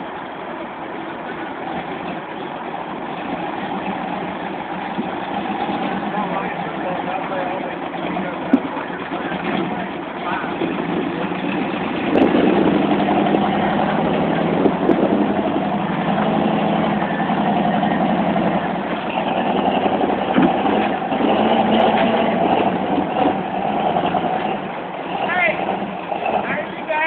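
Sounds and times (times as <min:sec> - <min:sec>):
engine running under load: 0:00.0 - 0:27.0.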